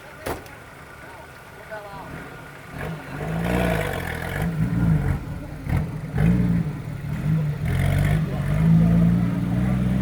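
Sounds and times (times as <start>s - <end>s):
vehicle engine revving: 1.9s - 10.0s.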